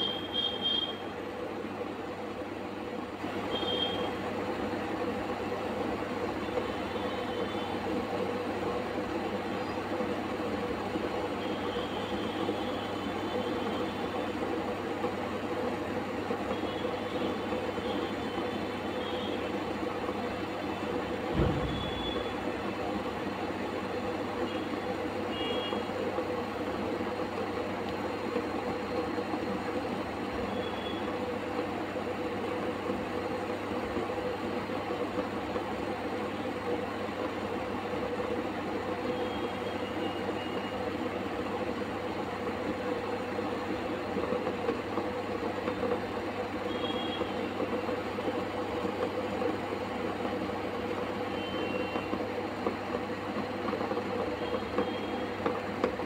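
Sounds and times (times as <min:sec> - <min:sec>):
water boiling in a pot: 0:00.0 - 0:56.0.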